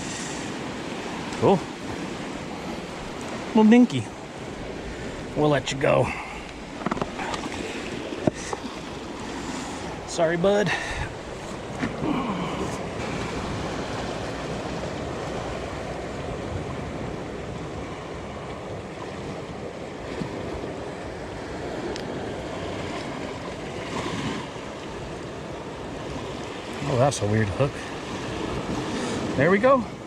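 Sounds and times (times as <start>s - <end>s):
ocean surf washing ashore: 0.0s - 30.0s.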